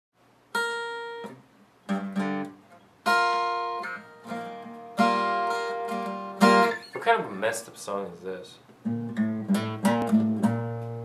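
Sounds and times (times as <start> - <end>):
acoustic guitar strumming chords: 0.5 - 11.0.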